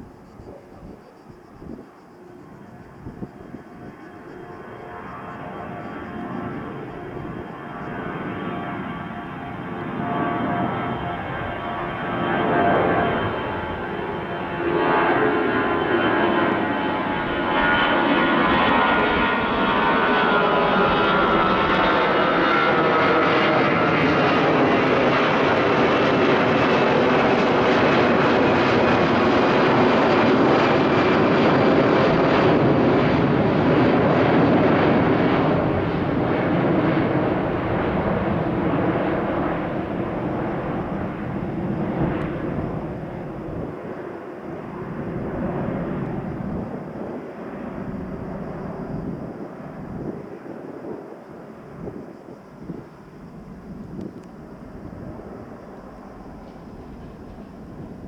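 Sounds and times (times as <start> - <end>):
jet engines roaring at takeoff: 0.0 - 58.0.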